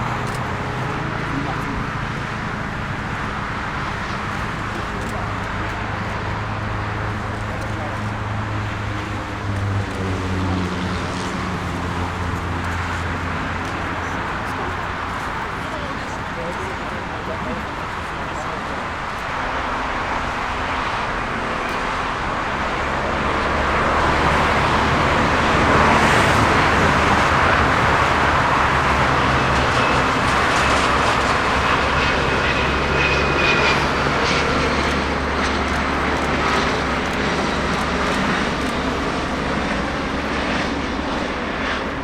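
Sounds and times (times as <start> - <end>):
jet engines roaring past: 0.0 - 42.0.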